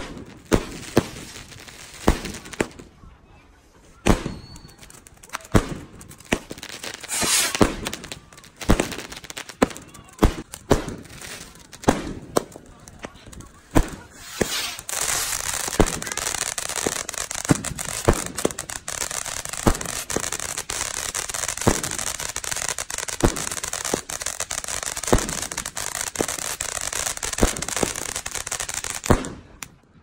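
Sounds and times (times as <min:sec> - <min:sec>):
firework bangs: 0:00.0 - 0:02.9, 0:04.0 - 0:29.7
firework hissing and crackling: 0:00.0 - 0:02.9, 0:04.1 - 0:29.7.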